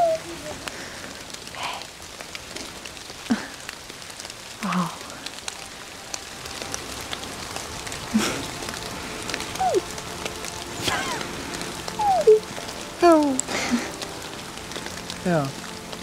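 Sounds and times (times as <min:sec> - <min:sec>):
rain patter on leaves: 0:00.0 - 0:16.0.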